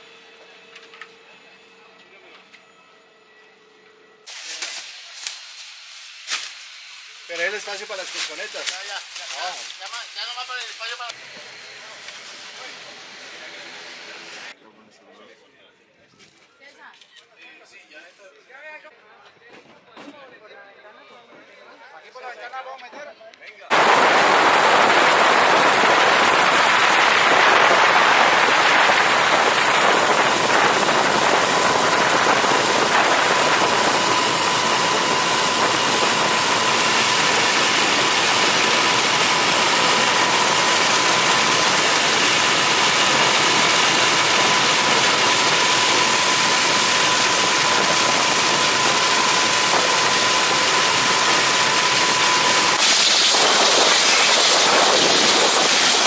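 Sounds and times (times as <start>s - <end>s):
helicopter engines and rotor: 0.0s - 14.6s, 23.7s - 56.0s.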